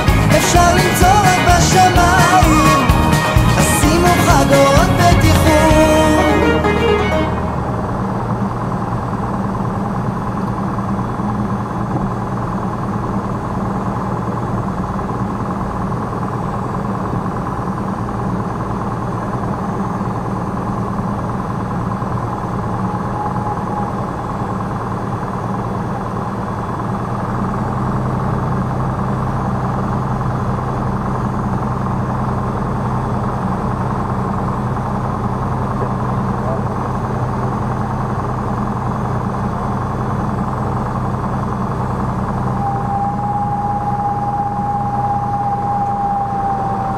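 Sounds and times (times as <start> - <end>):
propeller plane engine drone: 0.0 - 46.9.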